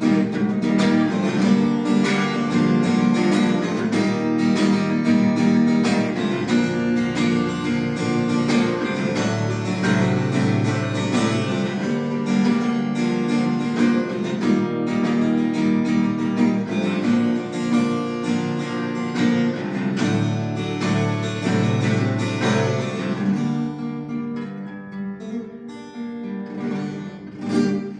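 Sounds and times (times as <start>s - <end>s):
acoustic guitar music: 0.0s - 27.9s.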